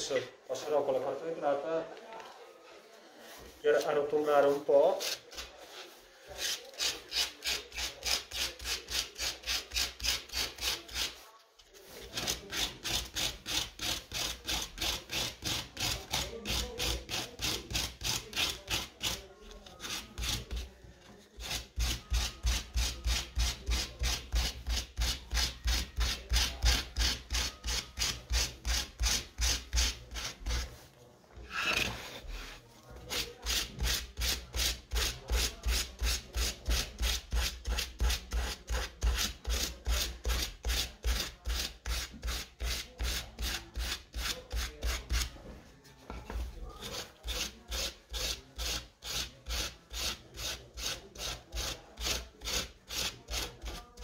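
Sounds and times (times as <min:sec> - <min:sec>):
sandpaper rasping on wood: 0:03.7 - 0:20.7, 0:21.4 - 0:30.8, 0:31.6 - 0:45.4, 0:46.7 - 0:54.0.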